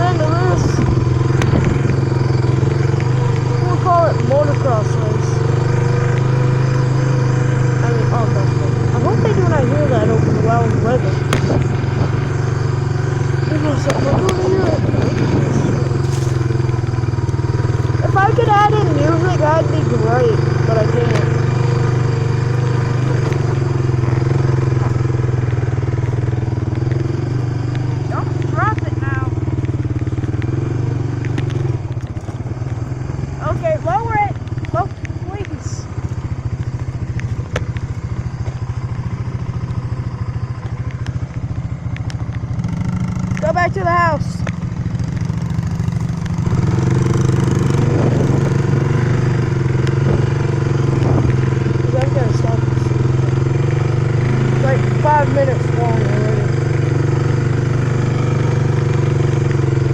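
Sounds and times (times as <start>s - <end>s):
off-road vehicle engine droning: 0.0s - 59.9s.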